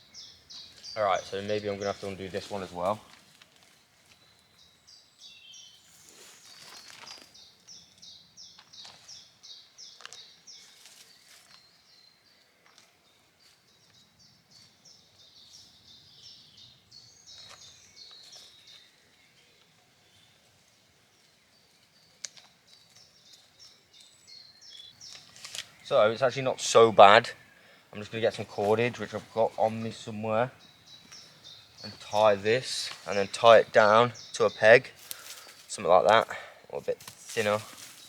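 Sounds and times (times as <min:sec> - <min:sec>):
small songbird chirping: 0:00.0 - 0:38.0.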